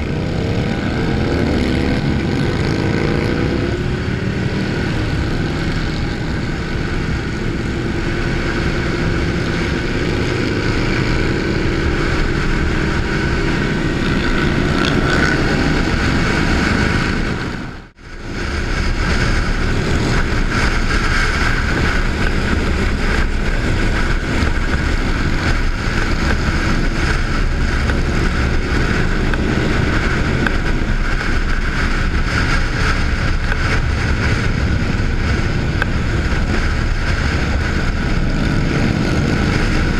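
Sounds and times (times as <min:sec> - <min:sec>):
motorcycle running: 0:00.0 - 0:39.9
wind noise on microphone: 0:00.0 - 0:39.9.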